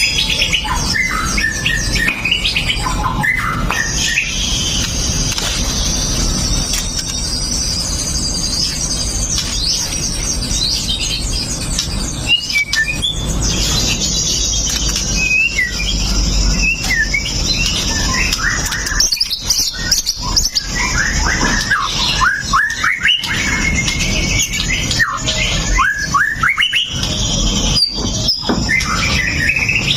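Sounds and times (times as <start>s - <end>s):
bird singing whistles and chirps: 0.0s - 29.9s.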